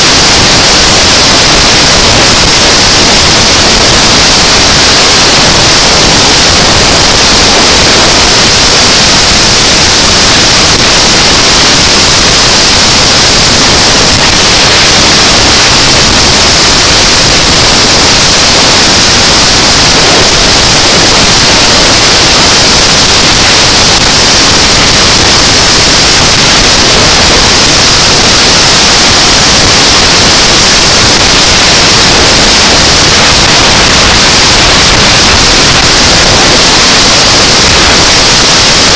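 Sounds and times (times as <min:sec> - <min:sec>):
wind and road rushing noise: 0:00.0 - 0:38.9.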